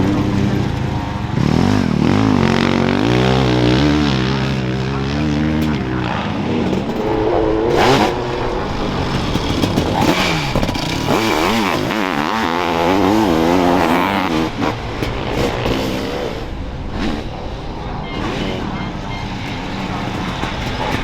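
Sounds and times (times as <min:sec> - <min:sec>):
motocross engines revving: 0:00.0 - 0:21.0.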